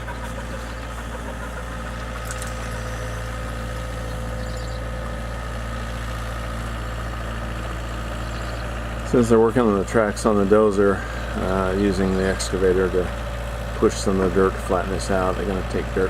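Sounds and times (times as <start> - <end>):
excavator diesel engine running: 0.0 - 16.0
steady engine whine: 0.0 - 16.0.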